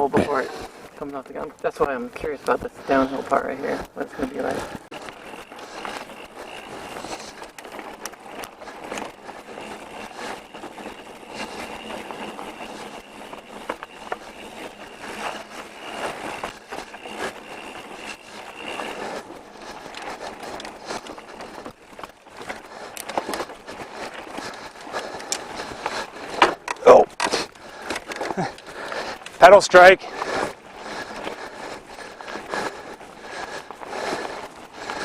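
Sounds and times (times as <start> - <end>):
bike rattling and knocking: 0.0 - 35.0
bike tyres rolling on dirt: 0.0 - 35.0.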